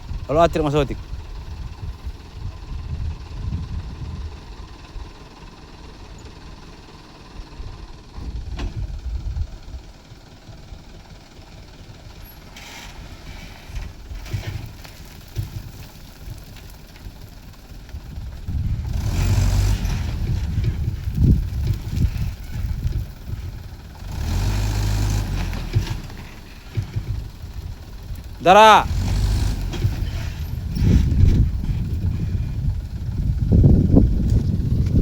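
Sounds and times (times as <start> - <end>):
diesel engine rumbling: 0.0 - 35.0.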